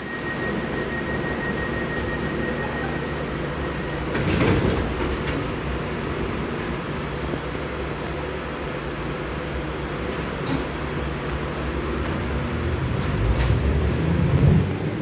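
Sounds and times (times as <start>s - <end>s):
train station low hum: 0.0s - 15.0s.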